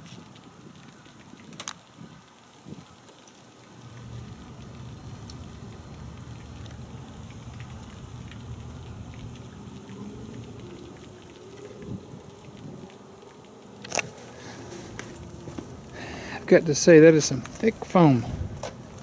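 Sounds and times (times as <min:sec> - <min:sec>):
low engine drone: 0:03.6 - 0:19.0.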